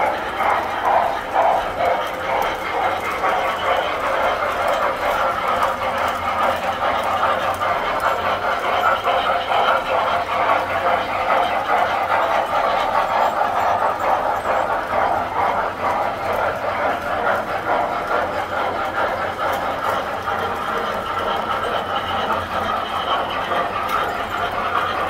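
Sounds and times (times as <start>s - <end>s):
toy trains whirring and rattling: 0.0s - 25.0s.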